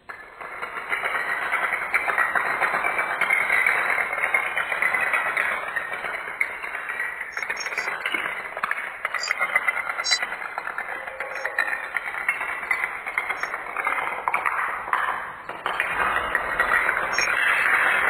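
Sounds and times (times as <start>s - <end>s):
dominoes clattering on tile floor: 0.1s - 18.0s.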